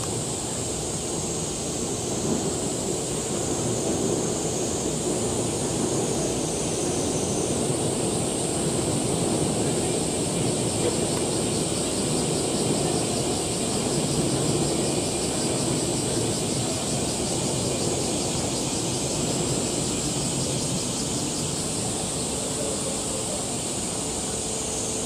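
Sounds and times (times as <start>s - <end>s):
high-pitched hiss: 0.0s - 25.0s.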